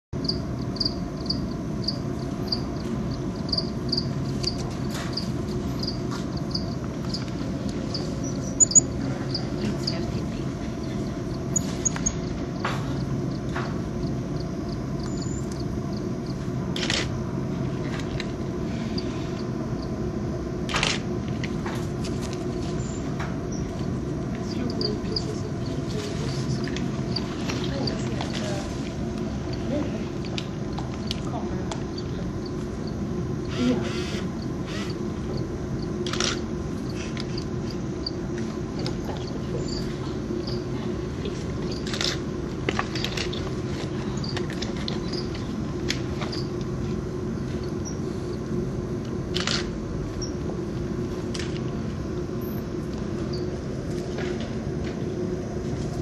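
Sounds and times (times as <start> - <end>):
low background hum: 0.1 - 56.0.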